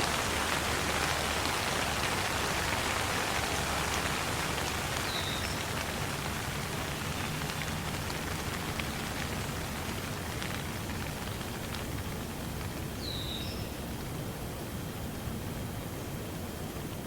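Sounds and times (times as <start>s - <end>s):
raindrop ticks: 0.0s - 14.1s
steady rain falling: 0.0s - 17.0s.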